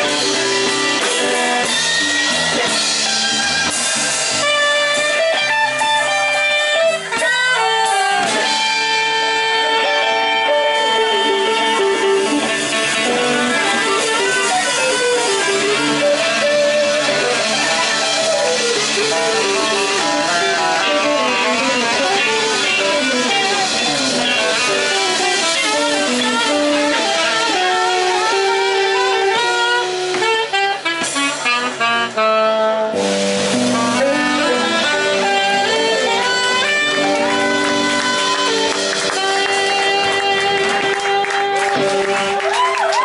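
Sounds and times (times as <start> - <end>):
live band playing: 0.0 - 43.0
saxophone solo: 0.0 - 43.0.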